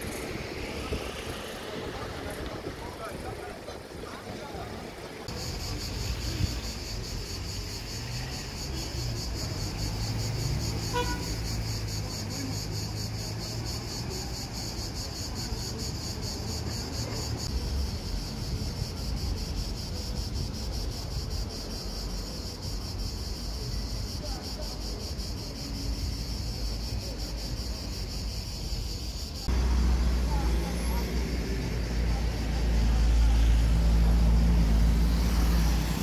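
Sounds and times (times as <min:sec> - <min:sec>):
cicadas buzzing: 0:05.2 - 0:36.0.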